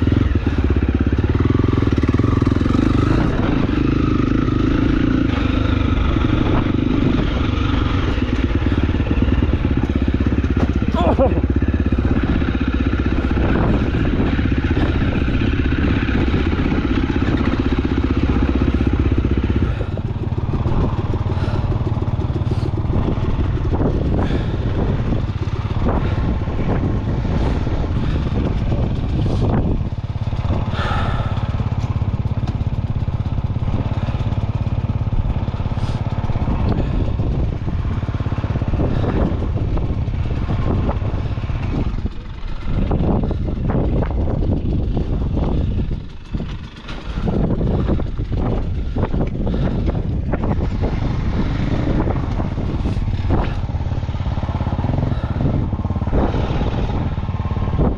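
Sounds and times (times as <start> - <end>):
dirt bike engine running: 0.0 - 57.9.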